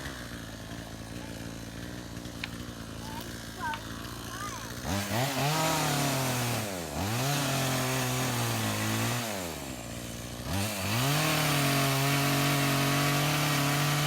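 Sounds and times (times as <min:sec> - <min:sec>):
chainsaw revving and idling: 0:00.0 - 0:14.0.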